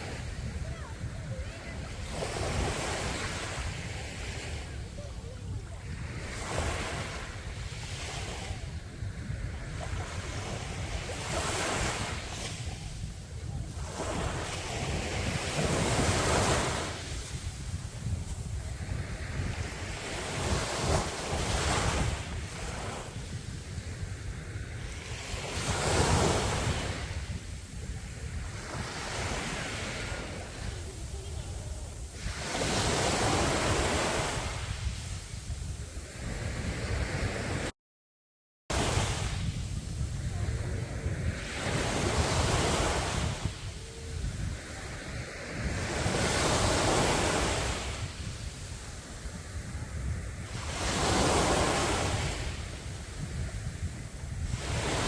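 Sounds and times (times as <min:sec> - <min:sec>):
sea waves washing onto beach: 0:00.0 - 0:37.7, 0:38.7 - 0:55.0
wind rumbling on microphone: 0:00.0 - 0:37.7, 0:38.7 - 0:55.0.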